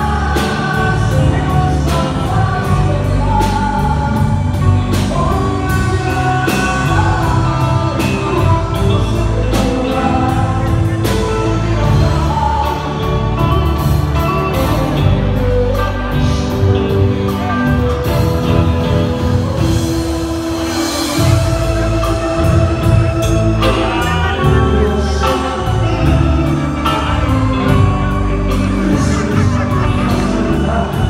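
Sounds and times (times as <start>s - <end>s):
song with sung vocal and drums: 0.0s - 31.0s.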